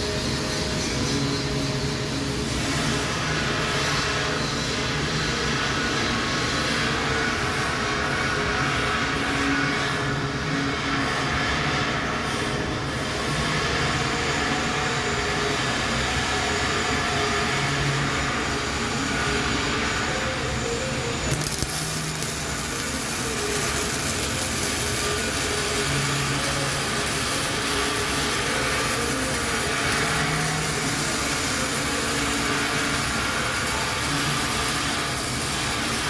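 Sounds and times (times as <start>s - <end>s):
welding arc sizzling and crackling: 0.0s - 36.0s.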